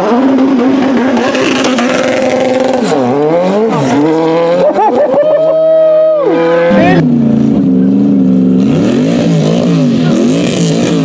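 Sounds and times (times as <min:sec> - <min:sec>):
race car engine revving: 0:00.0 - 0:05.2, 0:06.2 - 0:11.0.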